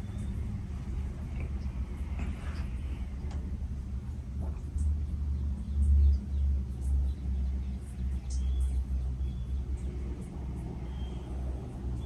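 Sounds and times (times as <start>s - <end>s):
ceiling fan rumbling: 0.0s - 12.0s.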